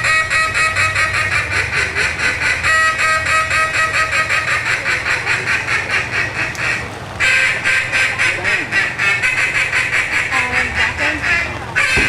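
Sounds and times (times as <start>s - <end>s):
duck call quacks: 0.0s - 12.0s.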